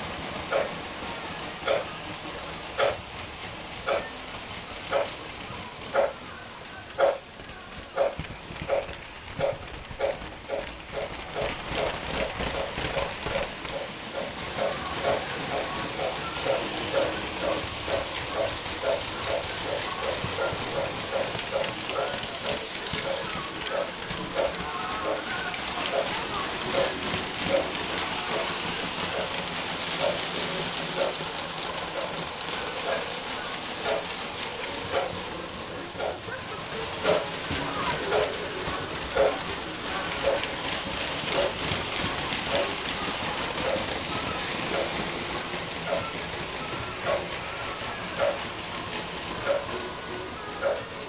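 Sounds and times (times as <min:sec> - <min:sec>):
model steam locomotive chuffs: 0:00.0 - 0:51.0.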